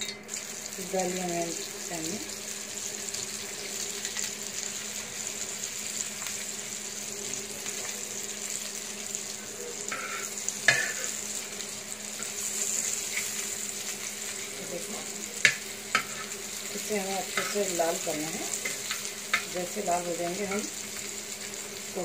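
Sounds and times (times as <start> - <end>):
meatballs sizzling in oil: 0.0 - 22.0.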